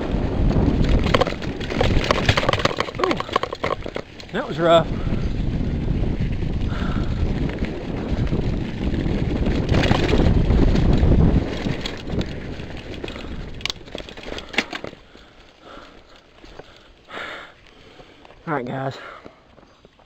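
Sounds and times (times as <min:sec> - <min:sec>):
bike frame rattling: 0:00.0 - 0:18.4
mountain bike tyres rumbling: 0:00.0 - 0:20.0.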